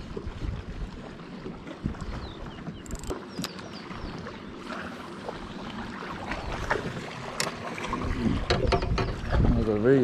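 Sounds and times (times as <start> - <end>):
waves lapping against boat hull: 0.0 - 10.0.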